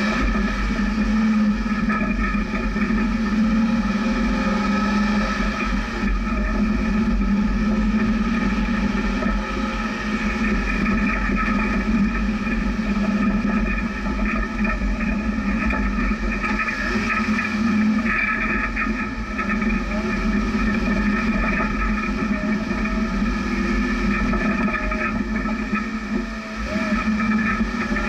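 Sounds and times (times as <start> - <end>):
vehicle engine driving slowly: 0.0 - 28.0.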